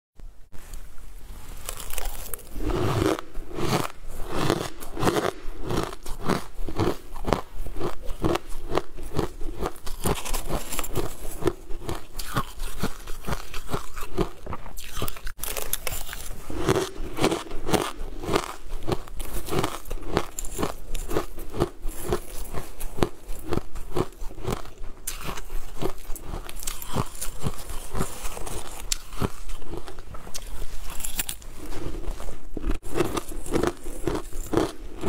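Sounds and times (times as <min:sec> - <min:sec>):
crunching and chewing ice: 0:01.6 - 0:35.0.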